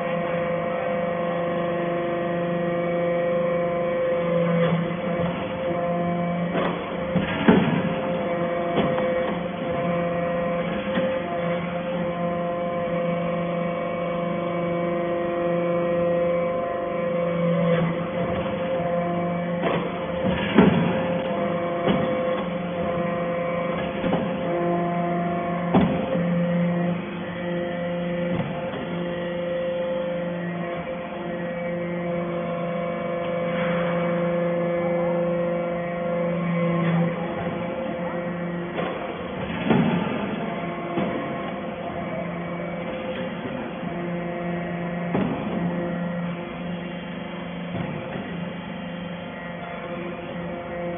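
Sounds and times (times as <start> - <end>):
hydraulic baler motor hum: 0.0 - 50.9.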